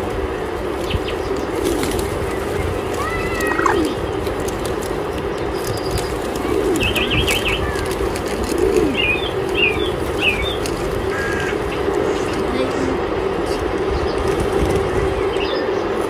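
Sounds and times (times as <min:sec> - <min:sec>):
outdoor background hiss: 0:00.0 - 0:16.0
wild birds chirping: 0:00.1 - 0:16.0.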